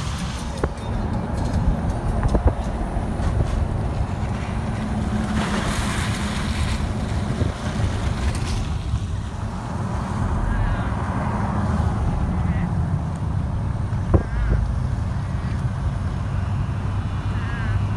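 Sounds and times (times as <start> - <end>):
engine and road rumble: 0.0 - 17.9
rushing noise: 0.0 - 17.9.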